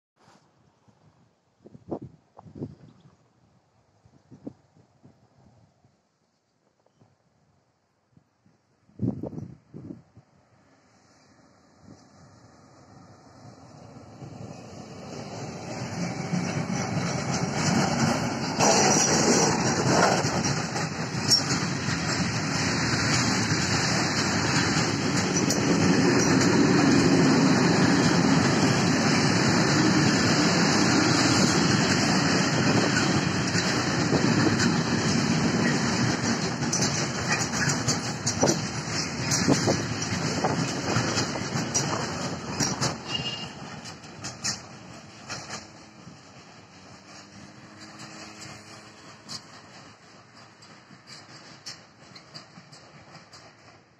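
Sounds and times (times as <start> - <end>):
freight wagon wheels rumbling on rail: 9.0 - 53.9
electric locomotive passing: 9.6 - 53.9.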